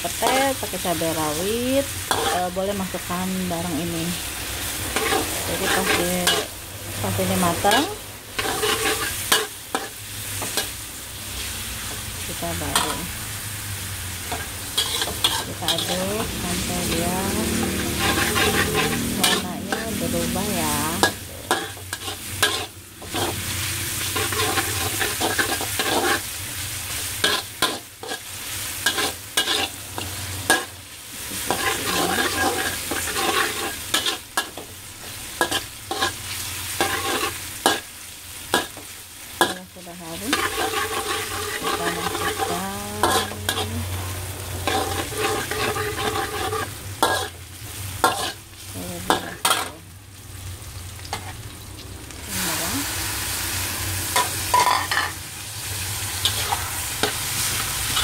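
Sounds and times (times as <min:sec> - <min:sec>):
shallots and garlic sizzling in oil: 0:00.0 - 0:58.0
metal spatula scraping a wok: 0:02.0 - 0:13.5, 0:14.1 - 0:49.8, 0:53.4 - 0:58.0.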